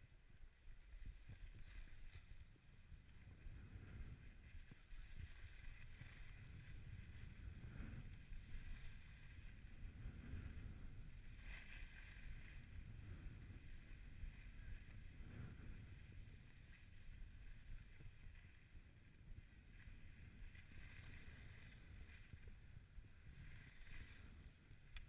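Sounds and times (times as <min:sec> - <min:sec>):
wind rumble on microphone: 0:00.0 - 0:25.0
skis hissing over packed snow: 0:00.7 - 0:25.0.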